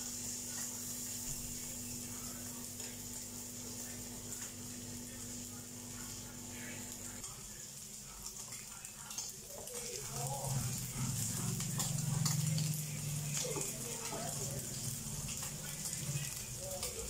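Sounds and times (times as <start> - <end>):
rice sizzling in oil: 0.0 - 17.0.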